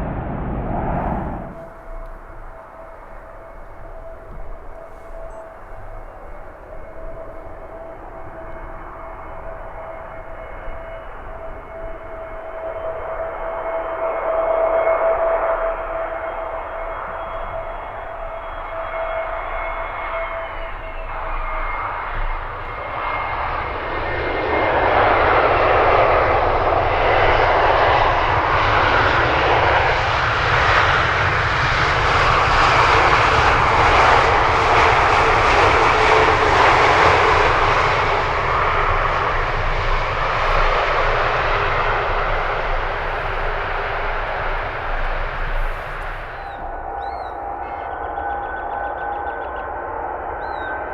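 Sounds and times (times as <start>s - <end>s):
jet engines passing by: 0.0s - 50.9s.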